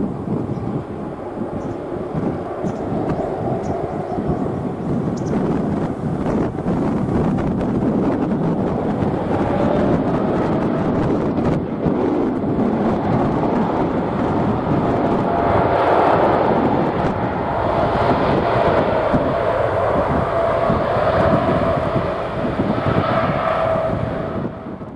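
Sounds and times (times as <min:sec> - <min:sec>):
jet engine roar: 0:00.0 - 0:24.9.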